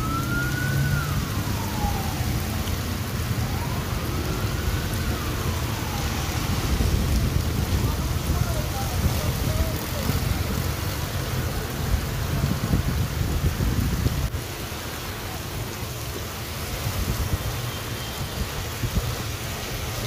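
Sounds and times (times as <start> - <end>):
heavy rain pouring on road: 0.0 - 20.0.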